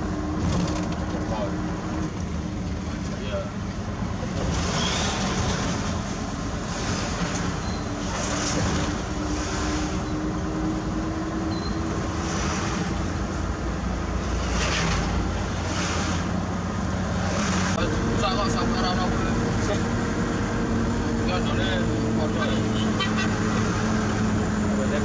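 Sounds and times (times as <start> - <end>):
tyre and road noise: 0.0 - 25.0.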